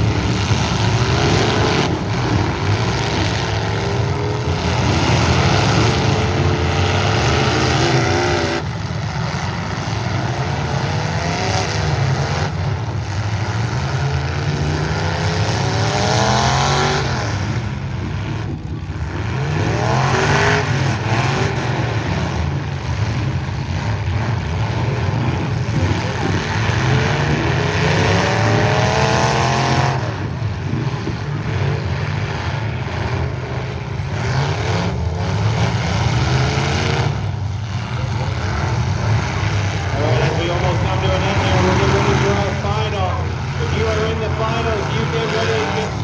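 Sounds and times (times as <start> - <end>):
engine drone: 0.0 - 46.0
truck engines revving: 0.0 - 46.0.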